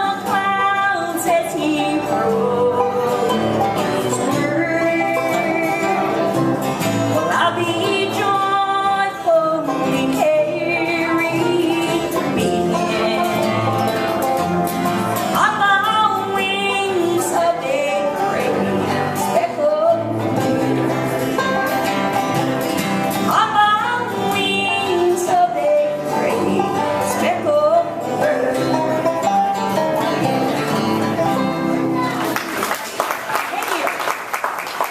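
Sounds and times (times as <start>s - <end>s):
banjo picking: 0.0s - 32.7s
guitar picking: 0.0s - 32.7s
bluegrass band playing: 0.0s - 34.9s.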